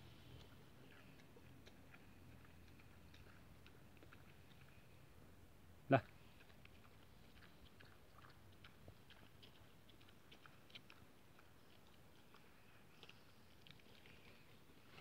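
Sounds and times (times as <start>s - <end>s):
boar chewing grass: 0.0s - 15.0s.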